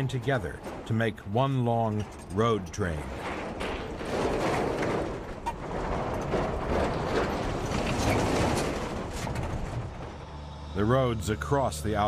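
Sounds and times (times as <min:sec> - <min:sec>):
truck driving rumble: 0:00.0 - 0:12.0.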